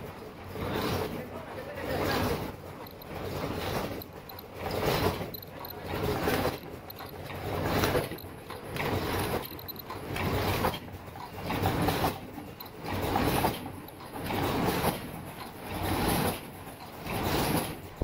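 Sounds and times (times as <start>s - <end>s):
machine clattering: 0.0s - 18.0s.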